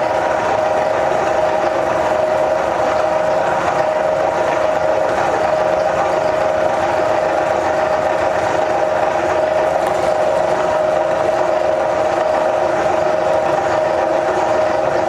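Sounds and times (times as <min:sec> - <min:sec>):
meat grinder motor humming: 0:00.0 - 0:15.0.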